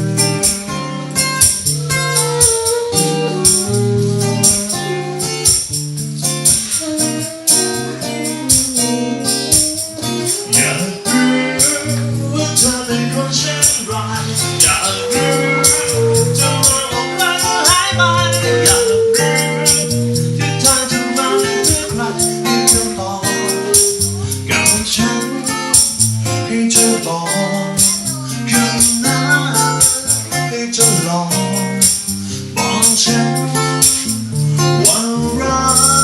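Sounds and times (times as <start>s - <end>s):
live band playing: 0.0s - 36.0s.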